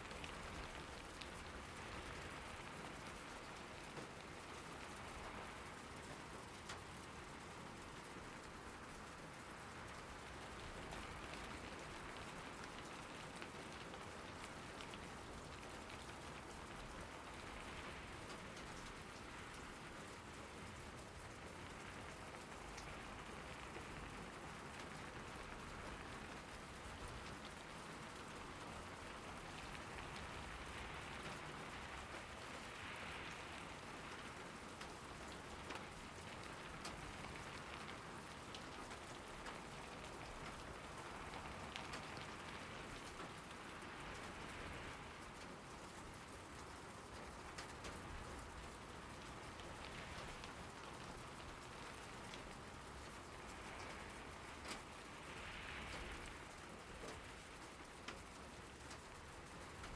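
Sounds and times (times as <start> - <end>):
steady rain falling: 0.0 - 59.9
rain drop ticks: 0.1 - 59.9.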